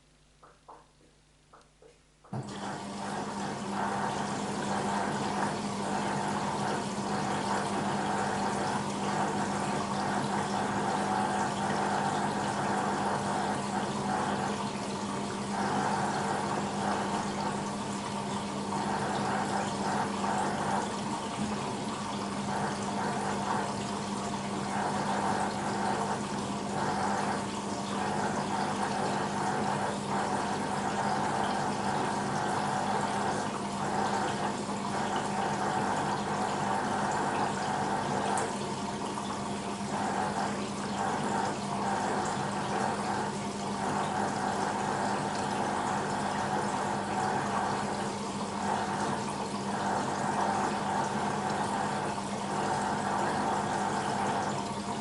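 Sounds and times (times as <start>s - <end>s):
water rushing in washing machine: 0.0s - 1.6s, 2.2s - 55.0s
steady mechanical hum: 0.0s - 55.0s.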